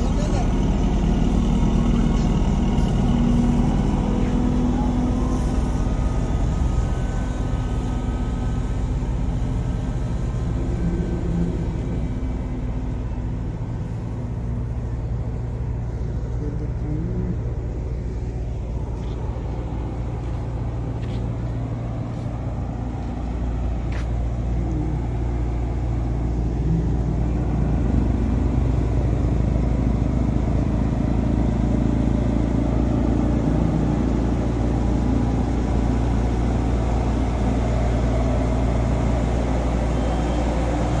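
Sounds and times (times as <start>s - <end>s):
road roller diesel engines: 0.0s - 41.0s.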